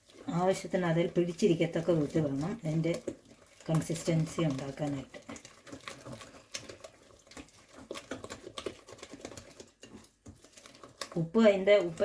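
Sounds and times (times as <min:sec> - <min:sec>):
batter stirred in bowl: 0:00.0 - 0:12.0.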